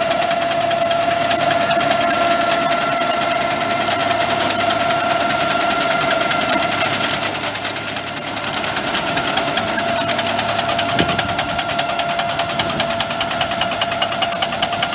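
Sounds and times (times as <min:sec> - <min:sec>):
clearing cutter whining and rattling: 0:00.0 - 0:14.9
excavator engine: 0:00.0 - 0:14.9.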